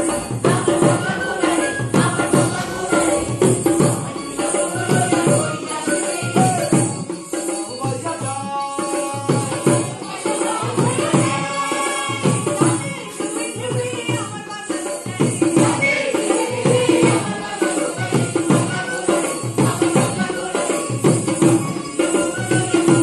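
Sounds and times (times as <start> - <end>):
hand percussion beat: 0.0 - 23.0.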